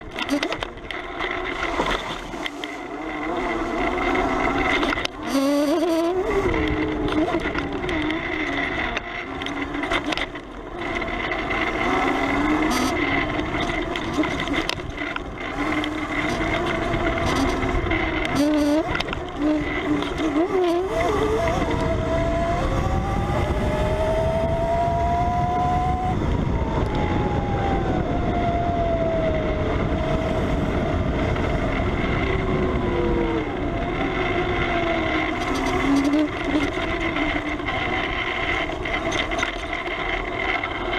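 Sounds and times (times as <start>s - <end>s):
electric motor whining: 0.0s - 40.9s.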